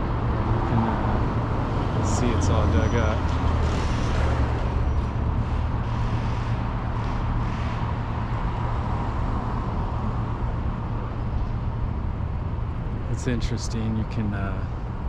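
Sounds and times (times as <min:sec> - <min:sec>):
city traffic rumble: 0:00.0 - 0:15.0
road noise: 0:00.0 - 0:15.0.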